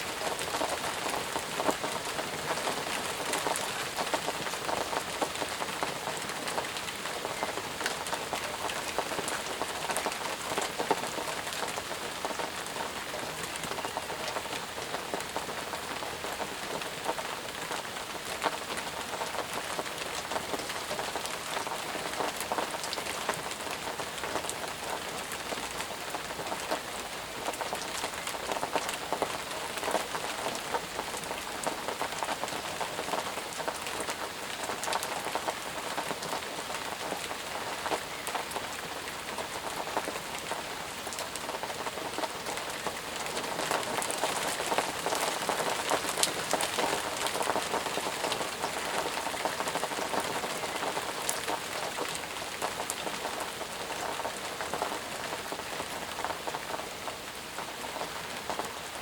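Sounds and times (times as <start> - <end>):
raindrops pattering on surfaces: 0.0 - 59.0.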